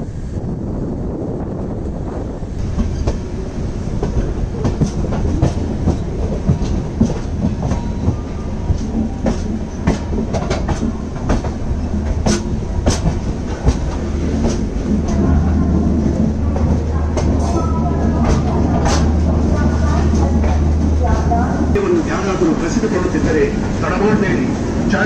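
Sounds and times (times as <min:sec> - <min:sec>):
train coaches rumbling: 0:00.0 - 0:25.0
wheels clacking over rail joints: 0:02.6 - 0:25.0.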